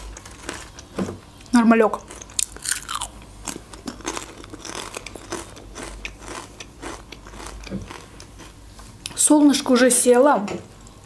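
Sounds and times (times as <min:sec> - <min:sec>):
chewing crunchy potato chips: 0:00.0 - 0:09.2.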